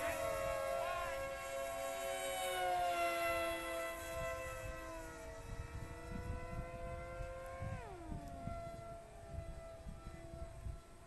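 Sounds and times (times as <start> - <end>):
electric motors and propellers whining: 0.0 - 11.0
wind rumble on microphone: 0.0 - 11.0.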